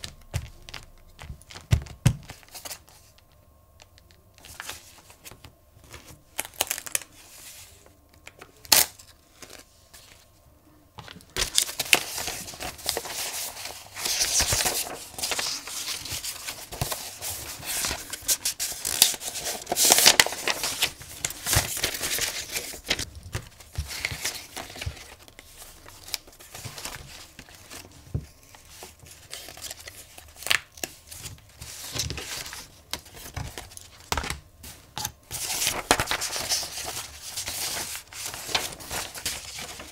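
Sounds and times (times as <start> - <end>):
paper rustling and crinkling: 0.0 - 3.3, 3.9 - 10.3, 11.0 - 39.9.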